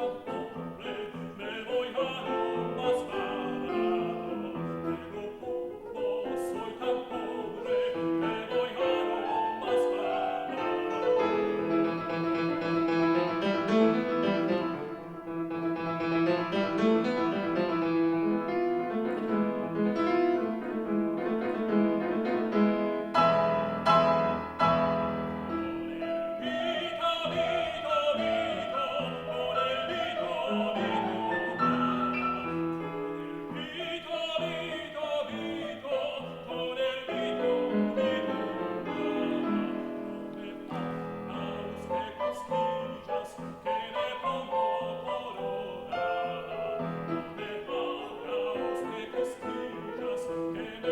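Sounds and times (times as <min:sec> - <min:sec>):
piano accompaniment: 0:00.0 - 0:50.9
tenor singing with vibrato: 0:00.0 - 0:50.9.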